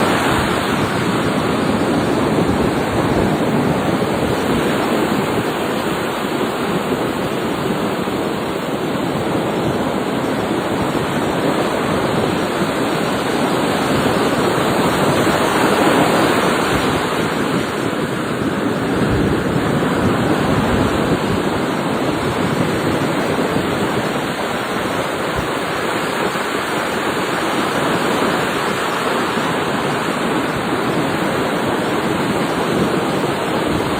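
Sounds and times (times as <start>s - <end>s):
surf rushing: 0.0s - 33.9s.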